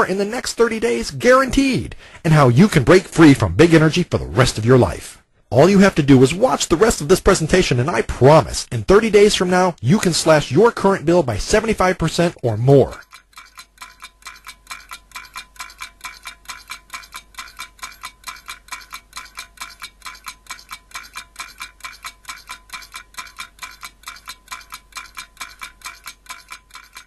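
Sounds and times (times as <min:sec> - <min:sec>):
rapid clock ticking: 0:00.0 - 0:04.8, 0:05.5 - 0:27.0.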